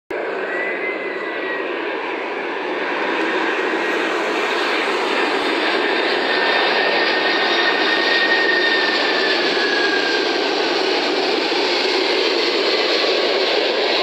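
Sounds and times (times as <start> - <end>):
jet engines roaring: 0.1 - 14.0.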